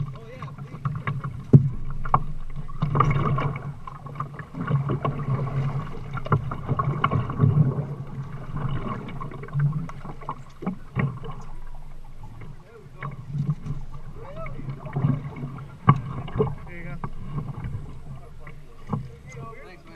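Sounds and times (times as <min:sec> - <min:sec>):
paddle knocking on plastic hull: 0:00.0 - 0:19.6
water splashing from paddle strokes: 0:00.0 - 0:19.9.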